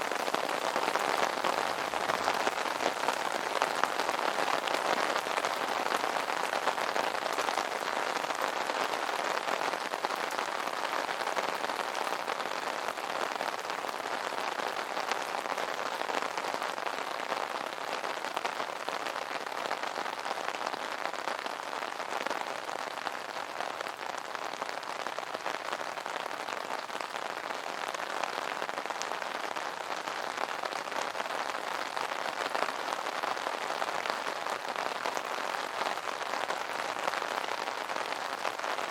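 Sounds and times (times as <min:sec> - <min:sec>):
rain patter on umbrella: 0:00.0 - 0:38.9.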